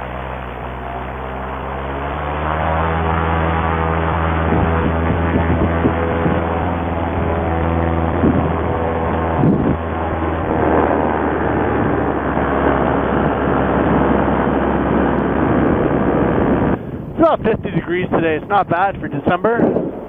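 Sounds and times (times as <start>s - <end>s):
two-stroke engine droning: 0.0s - 20.0s
wind rush: 3.2s - 20.0s.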